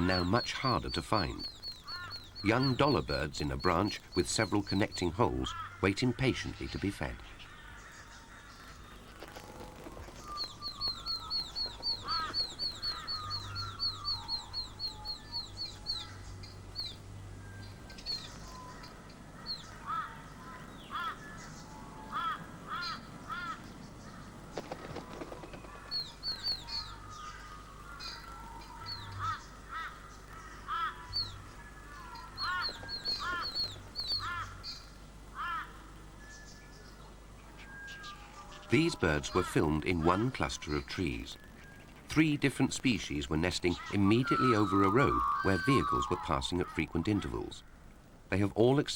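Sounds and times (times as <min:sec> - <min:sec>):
birds chirping high falling calls: 0:00.0 - 0:48.9
lower arched bird calls: 0:00.0 - 0:48.9.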